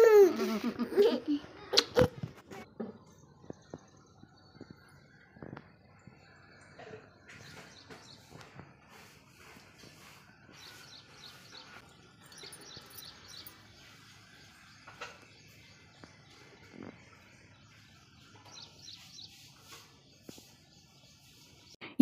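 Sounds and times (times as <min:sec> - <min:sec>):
small birds chirping: 0:00.0 - 0:21.8
outdoor background noise: 0:00.0 - 0:22.0.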